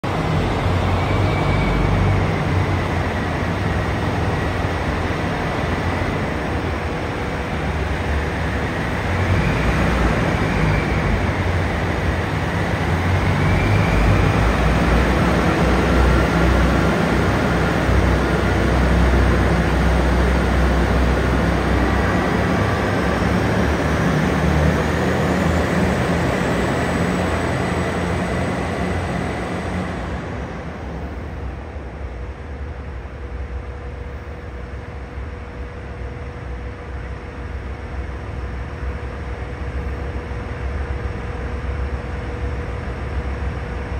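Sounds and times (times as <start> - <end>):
diesel train engines under load: 0.0 - 43.9.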